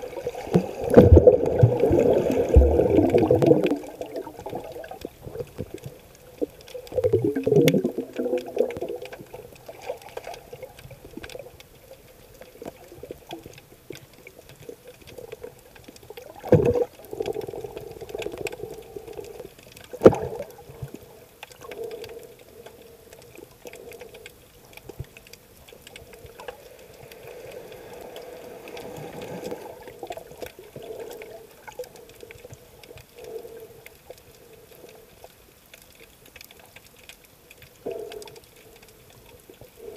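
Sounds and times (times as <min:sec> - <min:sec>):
muffled underwater water swishing: 0:00.0 - 0:39.9.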